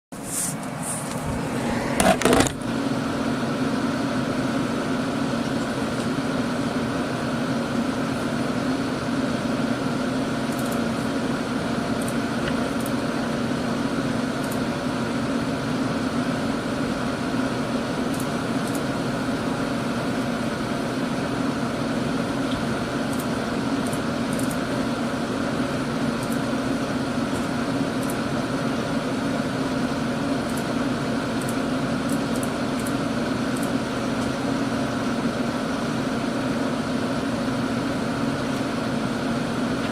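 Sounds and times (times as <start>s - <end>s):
computer fans rushing: 0.2s - 39.9s.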